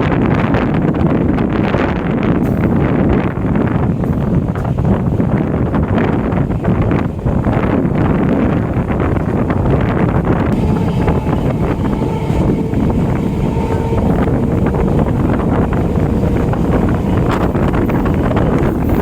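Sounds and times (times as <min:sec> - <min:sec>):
wind buffeting microphone: 0:00.0 - 0:19.0
electric train running: 0:02.2 - 0:19.0.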